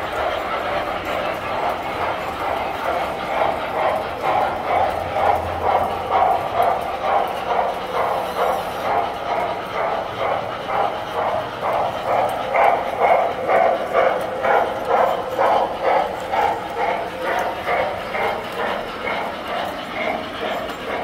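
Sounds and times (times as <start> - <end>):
toy trains clattering on track: 0.0 - 21.0.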